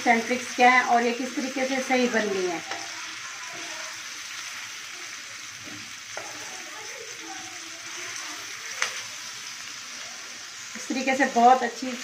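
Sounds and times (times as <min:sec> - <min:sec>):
liver sizzling in hot oil: 0:00.0 - 0:12.0.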